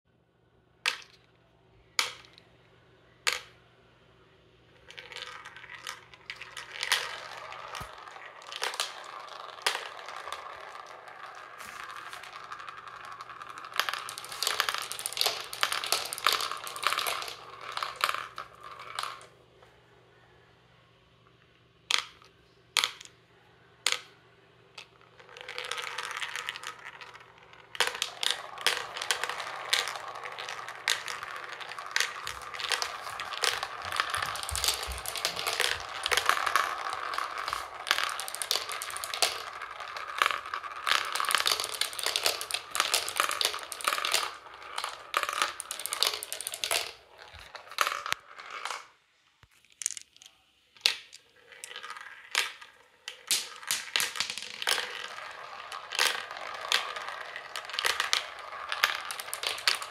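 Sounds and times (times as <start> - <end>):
marbles clattering in plastic tubes: 0.8 - 1.3, 2.0 - 2.4, 3.2 - 3.5, 4.8 - 19.3, 21.9 - 23.1, 23.8 - 24.1, 24.8 - 59.9.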